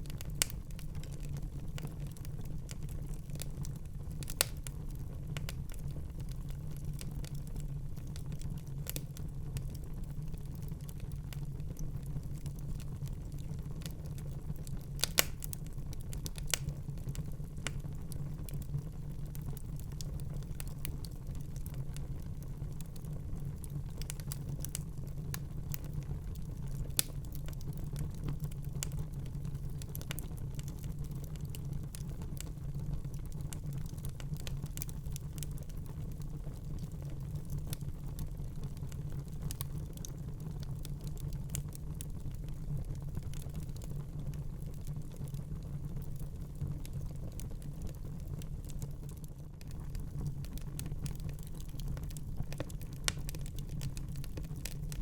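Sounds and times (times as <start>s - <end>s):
fire pops and snaps: 0.0s - 55.0s
low steady fire rumble: 0.0s - 55.0s.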